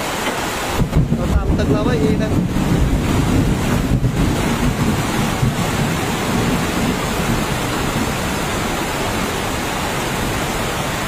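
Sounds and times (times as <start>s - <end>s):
heavy rain: 0.0s - 11.0s
rushing floodwater: 0.0s - 11.0s.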